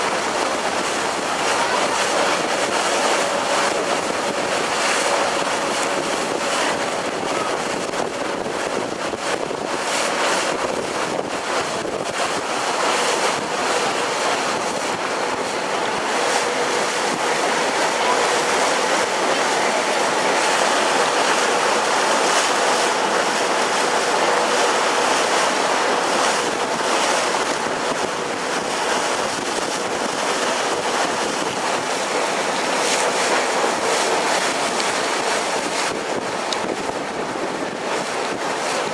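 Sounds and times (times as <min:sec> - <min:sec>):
boat engine drone: 0:00.0 - 0:38.9
water and wind rushing: 0:00.0 - 0:38.9.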